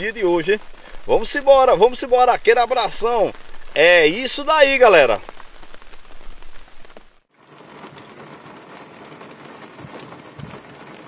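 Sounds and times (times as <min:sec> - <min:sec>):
rain on windshield and roof: 0:00.0 - 0:11.0.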